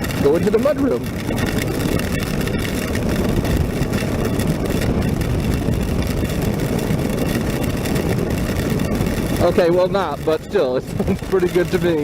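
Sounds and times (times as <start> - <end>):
motorcycle engine drone: 0.0 - 12.0
tyre noise on wet road: 0.0 - 12.0
wind rushing: 0.0 - 12.0.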